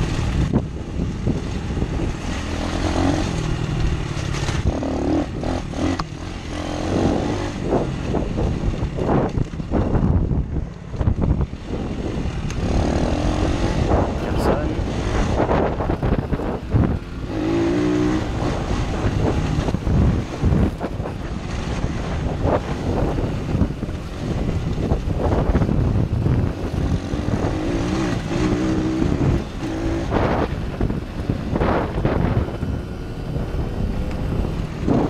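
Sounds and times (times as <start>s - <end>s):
dirt bike engine revving: 0.0s - 10.0s, 11.0s - 35.0s
wind noise on microphone: 0.0s - 35.0s.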